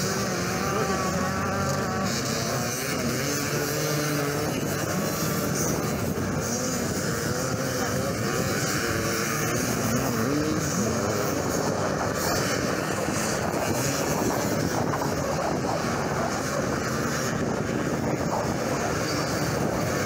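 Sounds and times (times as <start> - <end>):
motorcycle engines racing: 0.0 - 20.0.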